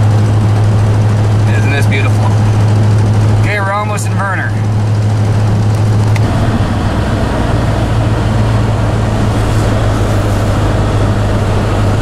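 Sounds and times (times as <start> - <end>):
road noise rushing: 0.0 - 12.0
truck engine drone: 0.0 - 12.0.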